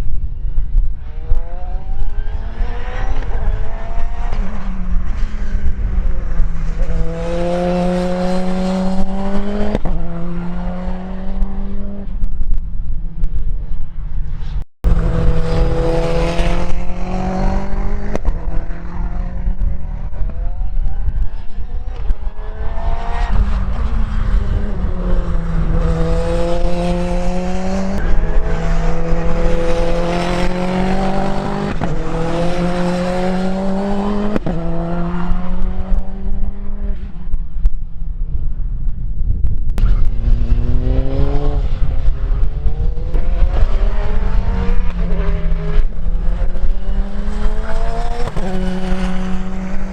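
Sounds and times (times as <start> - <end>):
race car engine at high revs: 1.0 - 12.2, 14.9 - 37.3, 39.8 - 49.9.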